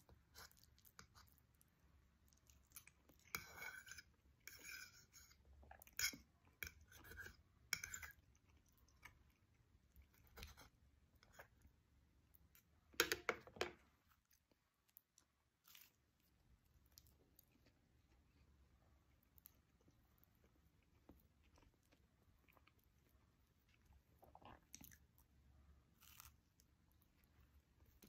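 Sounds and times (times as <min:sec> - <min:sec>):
chewing and crunching: 0:00.0 - 0:11.7, 0:14.1 - 0:28.0.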